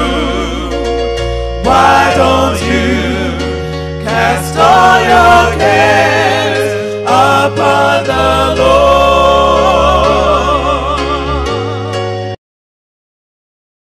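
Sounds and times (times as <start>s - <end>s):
voices singing gospel: 0.0s - 12.2s
sustained low bass notes: 0.0s - 12.3s.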